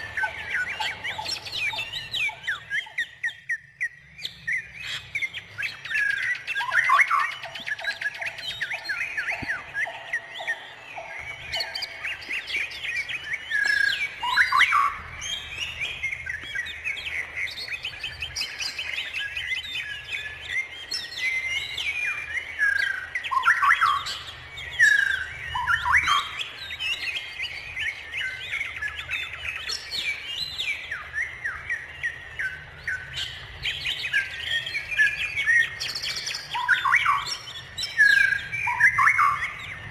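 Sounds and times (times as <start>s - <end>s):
birds singing and chirping: 0.0s - 39.9s
rapidly pulsing bird call: 0.0s - 39.9s.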